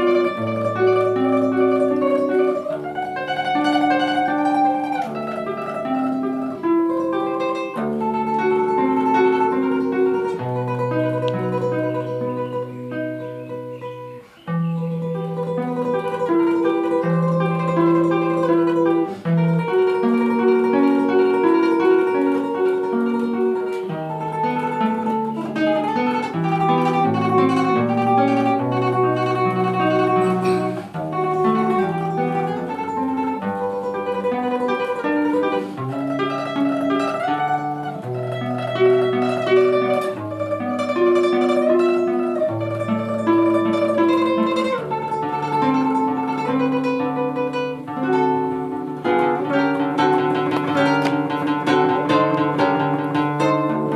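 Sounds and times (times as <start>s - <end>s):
classical guitar tremolo melody: 0.0s - 53.9s.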